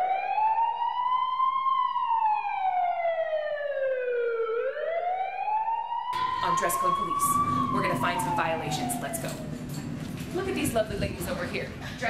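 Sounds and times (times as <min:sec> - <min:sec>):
police siren wailing: 0:00.0 - 0:10.8.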